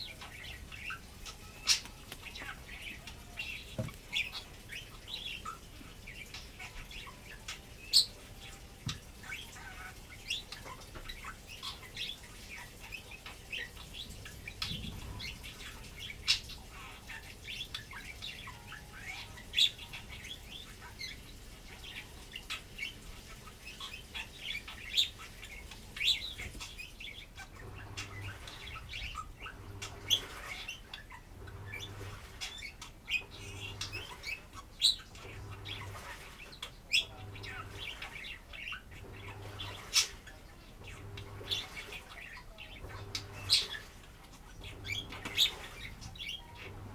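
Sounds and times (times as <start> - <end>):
budgerigar chattering and warbling: 0.0 - 46.9
low pulsing background noise: 0.0 - 46.9.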